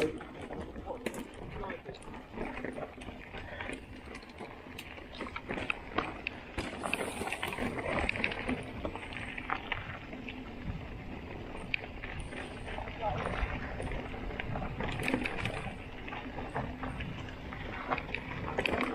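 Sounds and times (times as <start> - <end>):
bike clicking and rattling: 0.0 - 18.9
bike tyres on dirt: 0.0 - 18.9.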